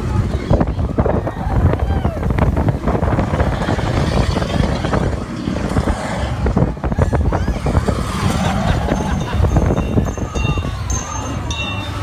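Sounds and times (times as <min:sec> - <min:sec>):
roller coaster cars rumbling: 0:00.0 - 0:12.0
wind buffeting microphone: 0:00.0 - 0:12.0.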